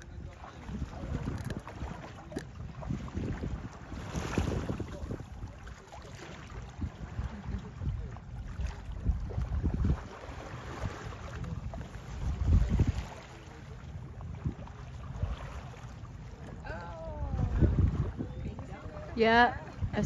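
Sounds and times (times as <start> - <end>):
water sloshing against hull: 0.0 - 20.0
wind buffeting microphone: 0.0 - 20.0.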